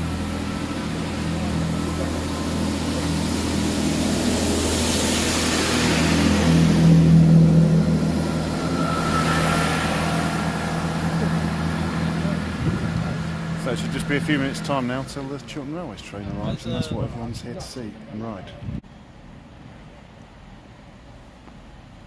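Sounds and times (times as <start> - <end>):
rushing of passing coaches: 0.0 - 18.4
diesel engines droning: 0.0 - 22.0.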